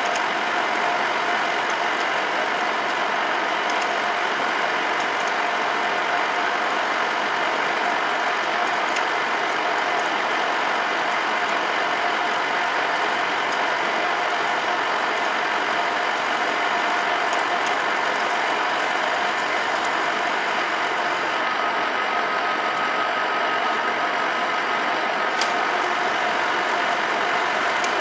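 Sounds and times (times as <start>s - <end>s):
metal lathe mechanical whir: 0.0s - 28.0s.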